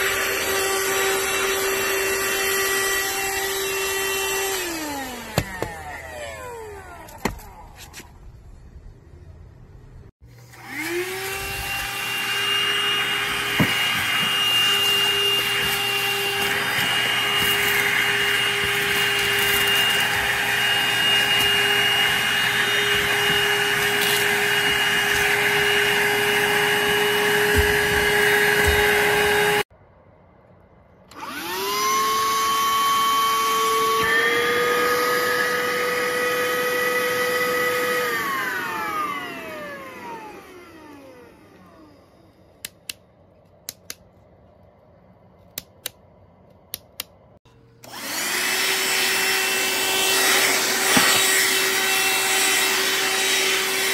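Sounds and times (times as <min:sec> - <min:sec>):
handheld vacuum motor whine: 0:00.0 - 0:07.6, 0:10.3 - 0:29.7, 0:31.1 - 0:42.5, 0:47.8 - 0:53.9.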